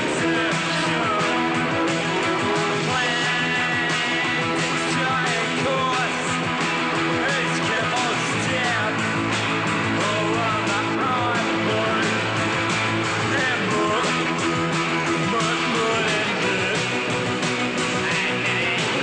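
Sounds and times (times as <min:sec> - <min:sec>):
rock song with guitar: 0:00.0 - 0:19.0
steady drum beat: 0:00.0 - 0:19.0.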